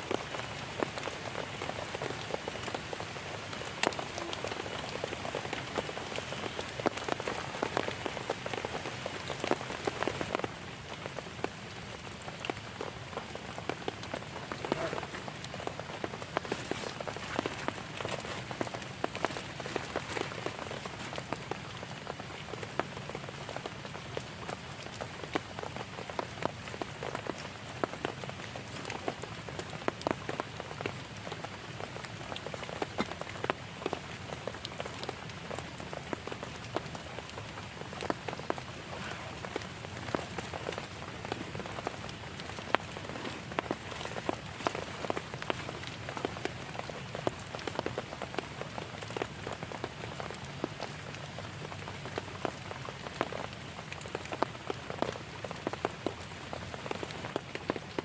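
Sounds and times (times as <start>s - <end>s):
heavy rain falling: 0.0s - 58.0s
raindrops ticking on a surface: 0.0s - 58.0s.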